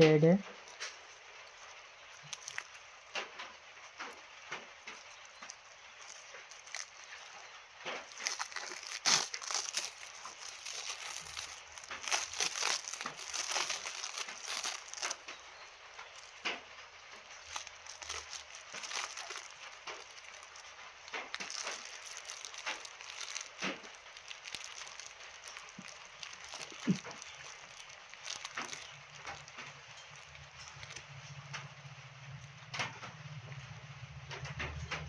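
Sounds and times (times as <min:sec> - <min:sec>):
rustling and crinkling plants: 0:00.0 - 0:35.0
sharp crackles: 0:00.0 - 0:35.0.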